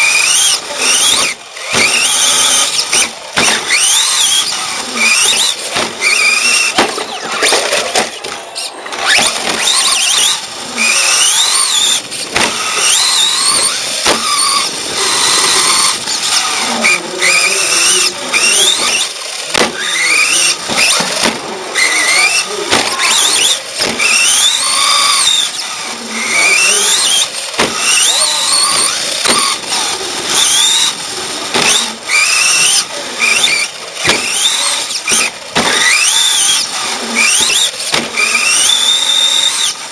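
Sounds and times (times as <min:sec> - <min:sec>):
rc truck motor whine: 0:00.0 - 0:39.9
tyres rushing: 0:00.0 - 0:39.9
chassis rattling and knocking: 0:00.9 - 0:39.3.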